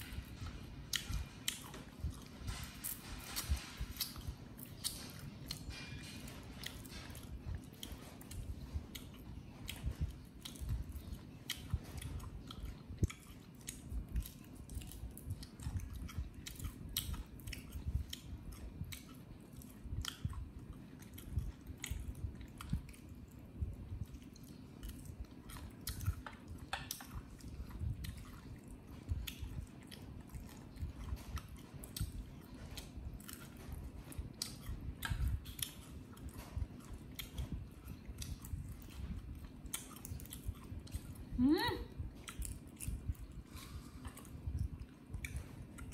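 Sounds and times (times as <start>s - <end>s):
chewing and mouth sounds: 0.0s - 45.9s.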